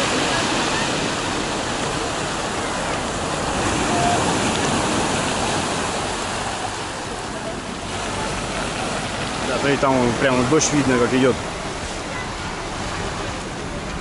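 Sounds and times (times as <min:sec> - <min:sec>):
surf breaking on pebble beach: 0:00.0 - 0:11.8.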